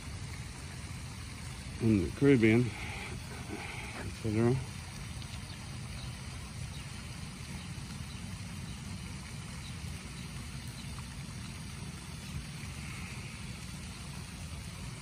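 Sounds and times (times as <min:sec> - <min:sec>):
fountain spray splashing: 0:00.0 - 0:15.0.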